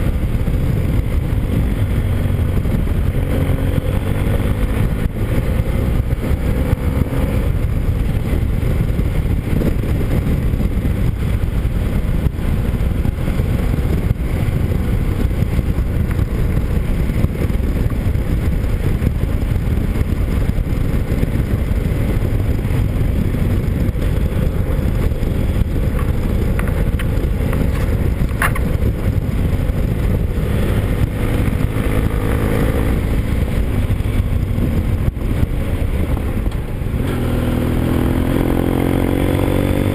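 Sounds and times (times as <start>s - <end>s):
motorcycle engine rumble: 0.0s - 39.9s
wind rushing: 0.0s - 39.9s.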